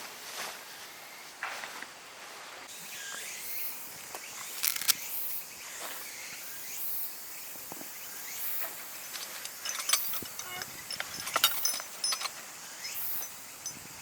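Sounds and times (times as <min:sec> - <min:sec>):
insects chirping: 0:02.8 - 0:14.0.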